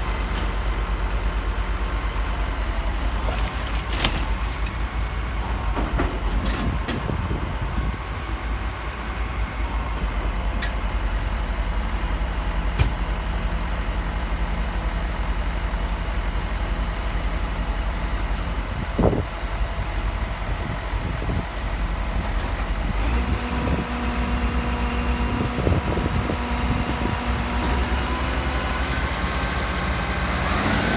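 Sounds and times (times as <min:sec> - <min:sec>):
heavy vehicle engine running: 0:00.0 - 0:30.9.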